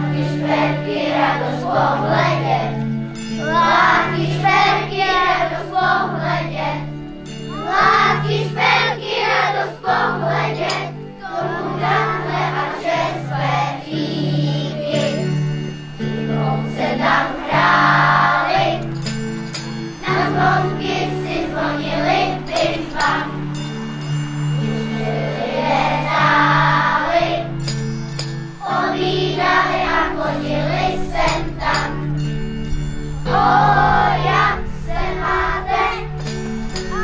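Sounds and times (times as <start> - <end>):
children's choir singing a carol: 0.0 - 27.9, 28.6 - 37.0
instrumental accompaniment: 0.0 - 37.0
tinkling bells: 0.7 - 6.2, 6.8 - 13.4, 14.2 - 29.0, 30.6 - 34.2, 36.2 - 37.0.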